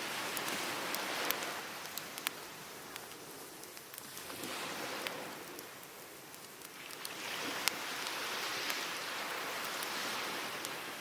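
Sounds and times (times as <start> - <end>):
fire pops: 0.0 - 10.8
firewood crackling in campfire: 0.0 - 11.0
surf washing: 0.0 - 11.0.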